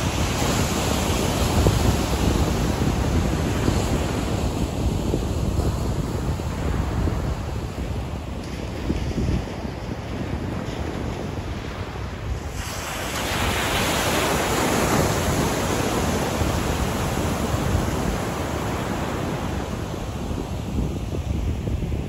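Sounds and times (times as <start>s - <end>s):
waves washing on sandy beach: 0.0s - 22.0s
wind buffeting microphone: 0.0s - 22.0s.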